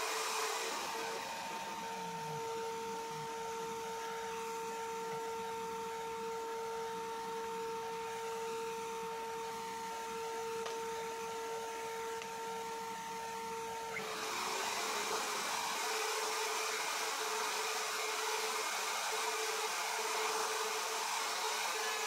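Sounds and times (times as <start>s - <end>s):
router whining: 0.0s - 22.0s
shop vacuum hissing: 0.0s - 22.0s.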